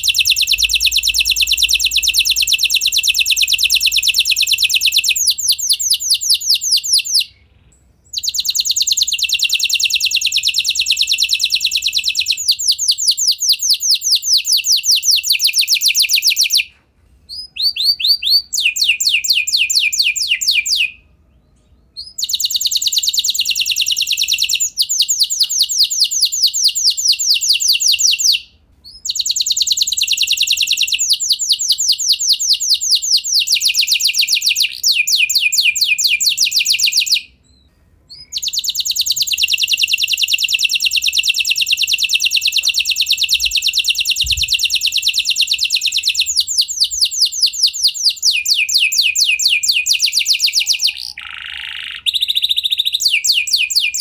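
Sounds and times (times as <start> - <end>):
canary trilling: 0.0 - 16.7, 17.3 - 54.0.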